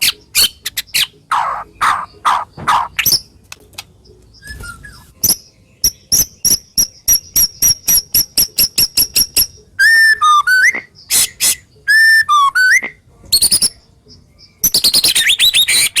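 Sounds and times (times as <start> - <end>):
bird singing: 0.0 - 16.0.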